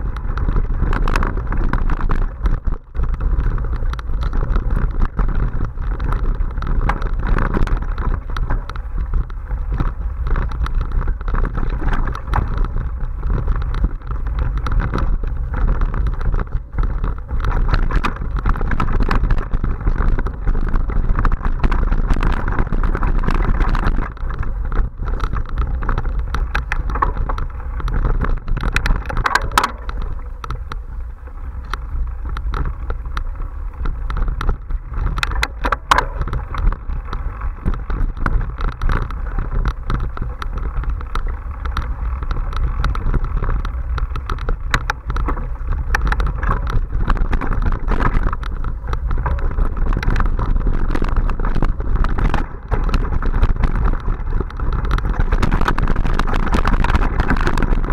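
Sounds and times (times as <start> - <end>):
bike rattles and knocks: 0.0 - 57.9
tyre rumble on dirt: 0.0 - 57.9
wind buffeting microphone: 0.0 - 57.9.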